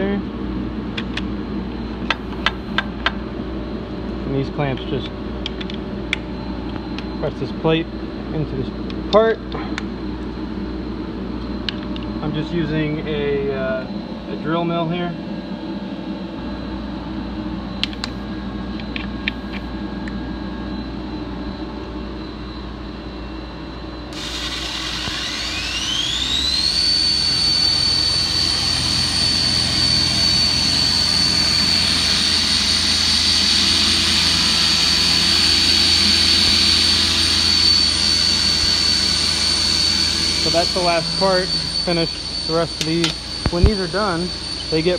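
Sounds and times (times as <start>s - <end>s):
high cutting whine: 0.0s - 44.9s
milling machine humming: 0.0s - 44.9s.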